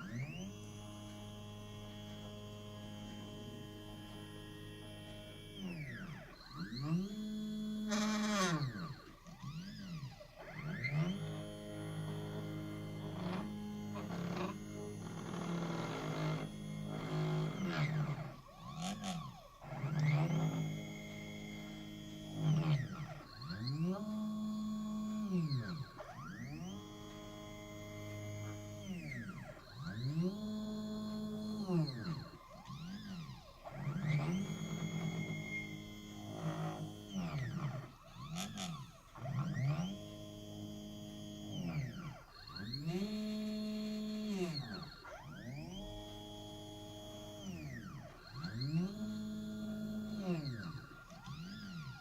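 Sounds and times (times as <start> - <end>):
cnc machine stepper motor whine: 0.0 - 52.0.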